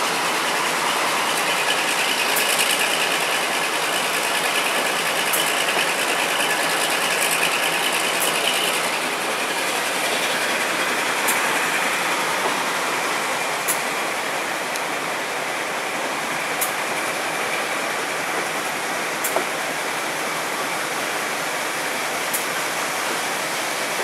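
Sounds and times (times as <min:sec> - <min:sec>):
train running noise: 0:00.0 - 0:24.0
wheels clicking over rail joints: 0:00.0 - 0:24.0.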